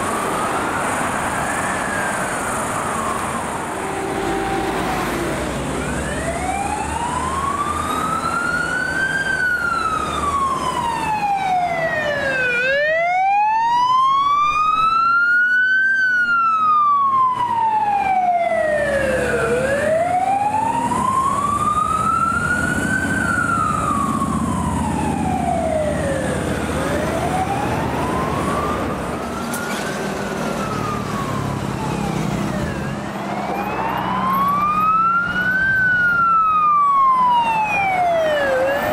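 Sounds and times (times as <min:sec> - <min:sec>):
engines rumbling: 0:00.0 - 0:38.9
passing traffic: 0:00.0 - 0:38.9
siren wailing: 0:00.0 - 0:38.9.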